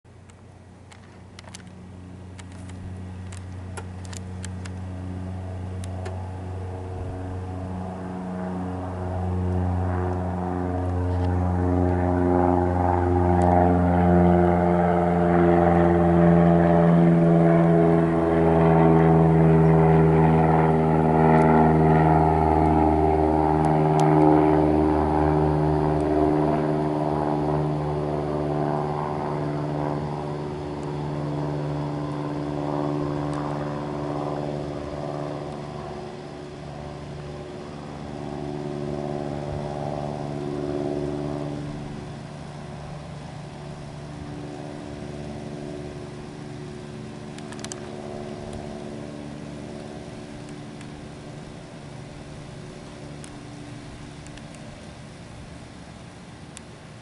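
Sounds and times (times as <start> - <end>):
propeller plane drone overhead: 0.0 - 57.0.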